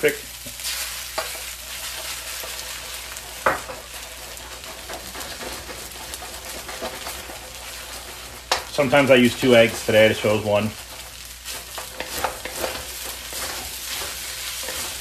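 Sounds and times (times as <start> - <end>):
rice sizzling in a wok: 0.0 - 15.0
spatulas scraping a wok: 0.5 - 15.0.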